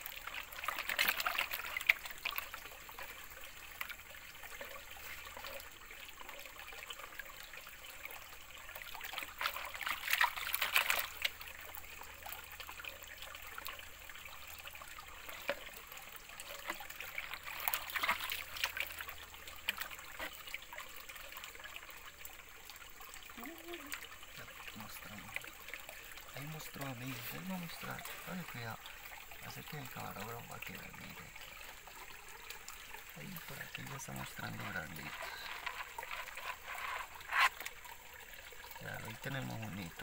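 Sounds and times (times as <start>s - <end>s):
water sloshing in a plastic pan: 0.0s - 40.0s.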